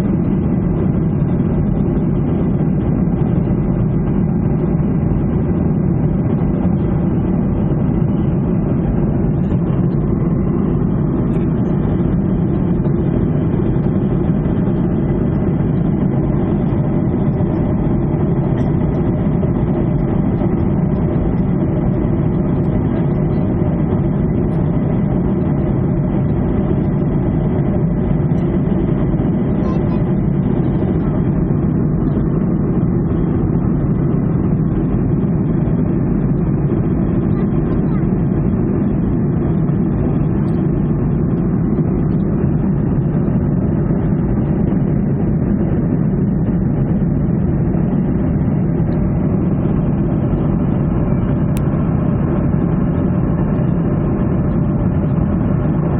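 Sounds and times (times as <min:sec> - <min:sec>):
faint steady whine: 0:00.0 - 0:55.9
jet engine rumble in cabin: 0:00.0 - 0:55.9.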